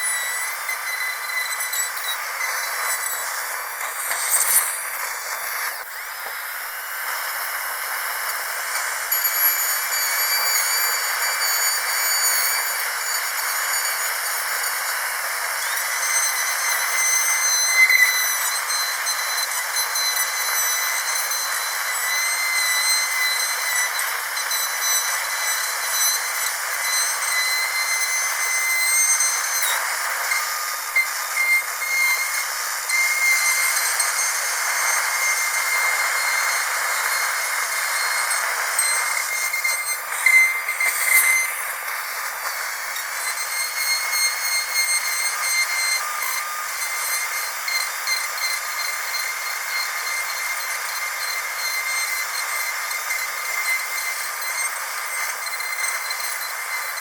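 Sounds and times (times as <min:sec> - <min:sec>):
dentist's drill whining: 0:00.0 - 0:57.0.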